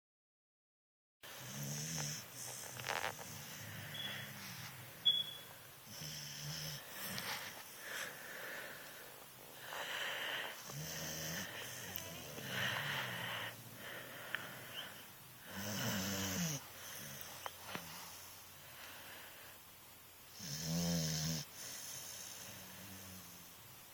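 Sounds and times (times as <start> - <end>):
snoring breaths: 1.2 - 5.0, 5.8 - 19.6, 20.3 - 23.5.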